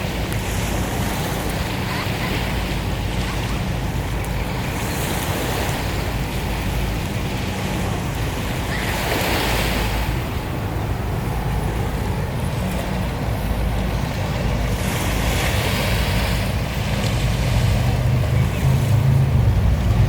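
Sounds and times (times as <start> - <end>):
water washing against shore: 0.0 - 20.0.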